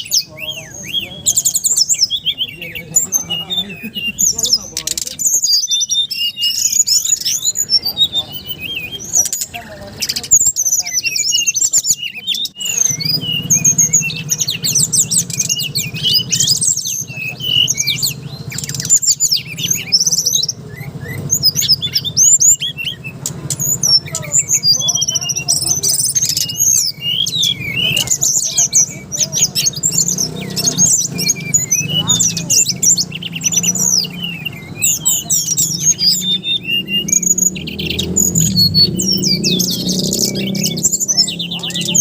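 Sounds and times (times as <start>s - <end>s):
bird singing chirps and trills: 0.0s - 42.0s.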